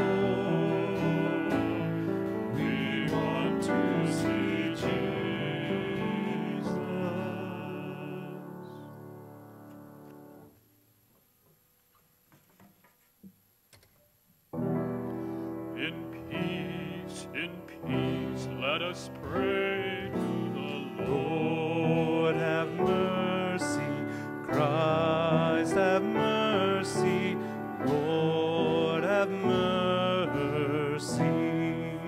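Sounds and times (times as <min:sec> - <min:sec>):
person singing with accompaniment: 0:00.0 - 0:09.1, 0:15.0 - 0:32.0
church music with held notes: 0:00.0 - 0:10.6, 0:14.8 - 0:32.0.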